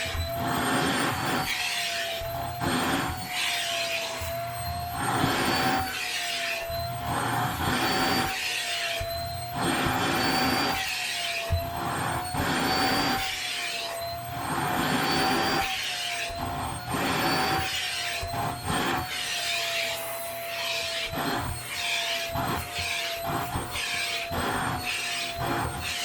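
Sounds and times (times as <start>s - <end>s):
vacuum cleaner motor whine: 0.0s - 26.0s.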